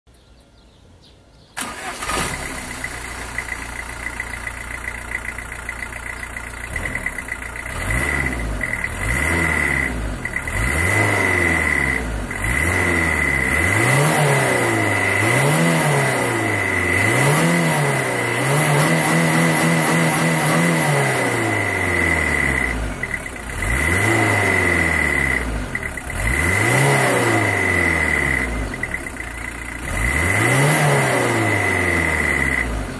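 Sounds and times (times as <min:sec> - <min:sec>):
diesel engine idling and revving: 0:01.6 - 0:32.9.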